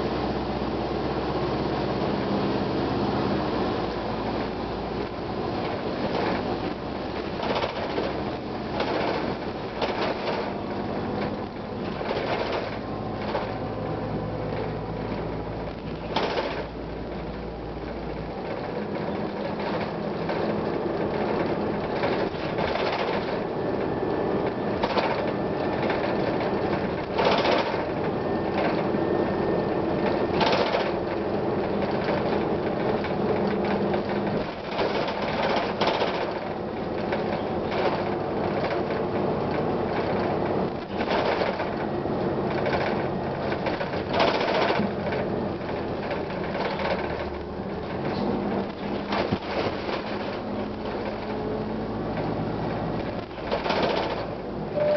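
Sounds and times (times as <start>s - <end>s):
bus body rattling and knocking: 0.0s - 54.9s
bus diesel engine droning: 0.0s - 54.9s.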